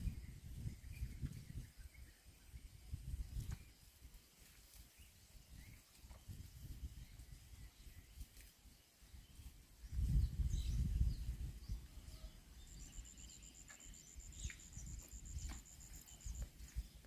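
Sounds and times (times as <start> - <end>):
bird chirps: 0.0 - 3.9, 4.9 - 17.0.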